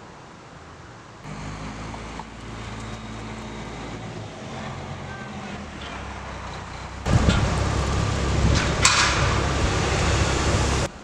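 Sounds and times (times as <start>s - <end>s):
outdoor background noise: 0.0s - 11.0s
car engines running: 0.8s - 11.0s.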